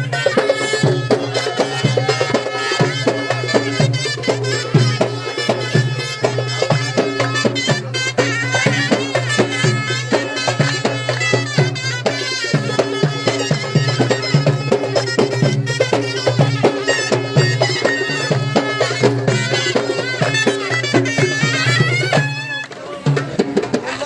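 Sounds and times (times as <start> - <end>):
double-reed shawms playing folk melody: 0.0 - 23.4
drum beats: 0.0 - 24.0.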